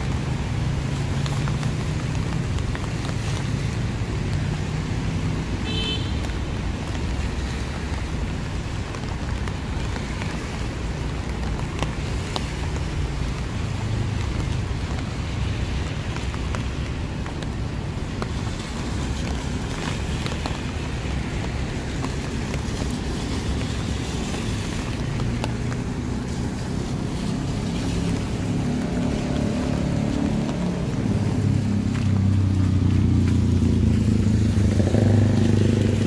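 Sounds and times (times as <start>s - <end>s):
passing car traffic rumble: 0.0s - 36.0s
rain on street: 0.0s - 36.0s.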